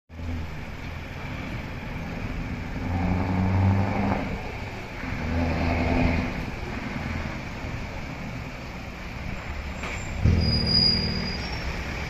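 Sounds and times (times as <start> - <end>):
road traffic passing: 0.1 - 12.0.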